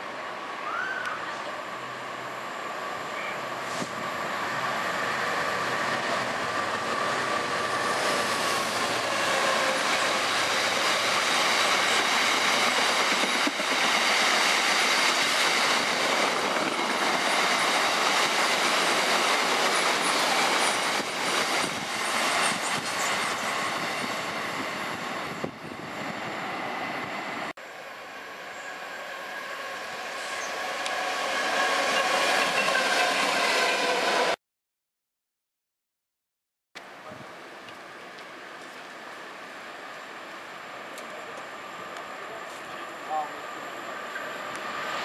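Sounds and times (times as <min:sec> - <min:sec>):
diesel locomotive approaching: 0:00.0 - 0:34.4, 0:37.4 - 0:45.0
train wagons rolling on rails: 0:01.4 - 0:25.8, 0:28.4 - 0:34.4, 0:37.1 - 0:45.0.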